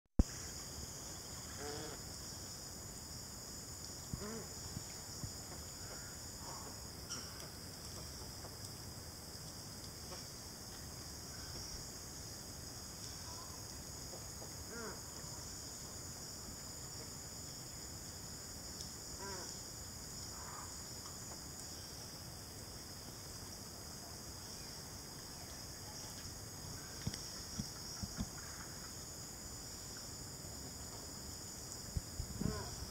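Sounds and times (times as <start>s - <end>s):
high-pitched insect chorus: 0.2s - 32.9s.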